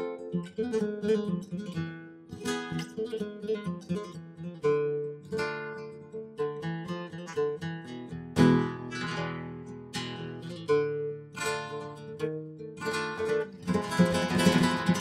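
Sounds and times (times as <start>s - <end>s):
acoustic guitar plucking and strumming: 0.0s - 15.0s.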